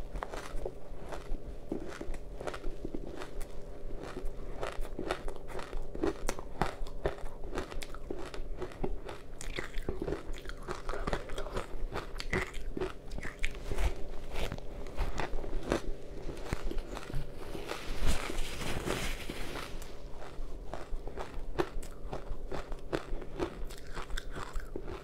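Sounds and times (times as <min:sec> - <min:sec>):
ice crunching while chewed: 0:00.0 - 0:25.0
mouth chewing: 0:00.2 - 0:25.0.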